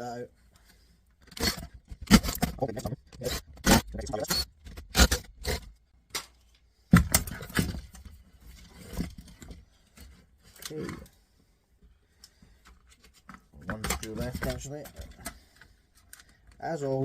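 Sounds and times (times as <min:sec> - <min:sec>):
plastic and metal parts scraping: 0:00.6 - 0:11.2, 0:12.2 - 0:17.0.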